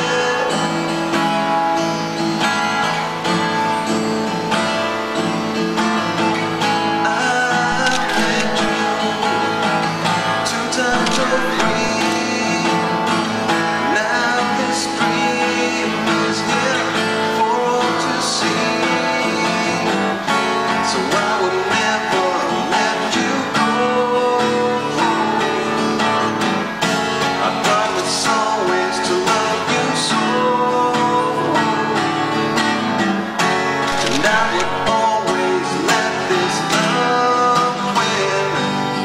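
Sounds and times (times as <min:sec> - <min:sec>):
man singing: 0:00.0 - 0:01.8, 0:06.6 - 0:26.5, 0:27.2 - 0:33.0, 0:33.8 - 0:39.0
acoustic guitar strummed: 0:00.0 - 0:39.0.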